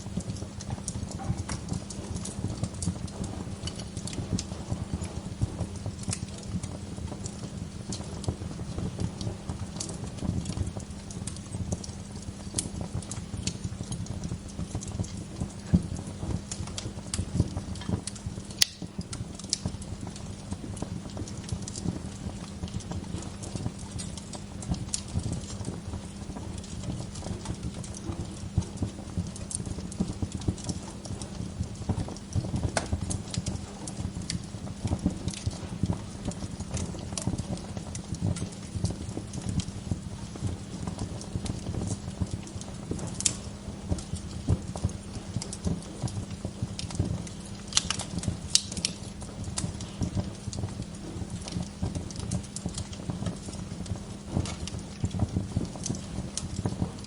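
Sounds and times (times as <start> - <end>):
wood fire crackling: 0.0 - 57.0
sharp pops of burning wood: 0.1 - 57.0.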